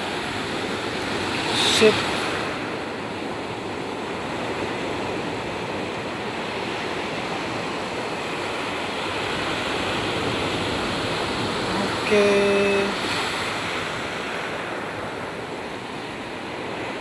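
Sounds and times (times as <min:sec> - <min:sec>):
ocean surf: 0:00.0 - 0:17.0.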